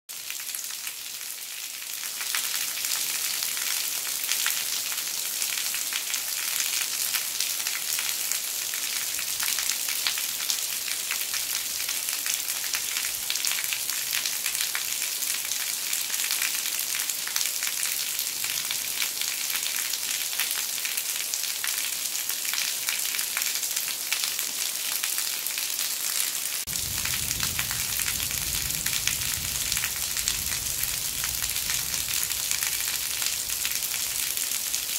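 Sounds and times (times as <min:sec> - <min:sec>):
heavy rain: 0:00.1 - 0:34.9
water pouring off roof eaves: 0:00.1 - 0:34.9.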